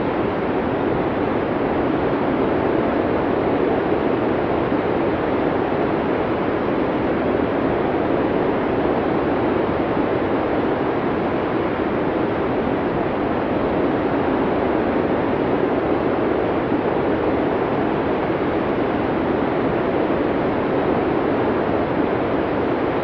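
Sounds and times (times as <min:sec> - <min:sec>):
blizzard wind: 0:00.0 - 0:23.0.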